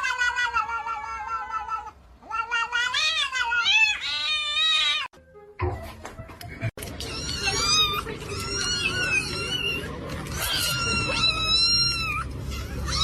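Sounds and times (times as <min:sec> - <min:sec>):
cat yowling: 0:00.0 - 0:05.1, 0:07.0 - 0:13.0.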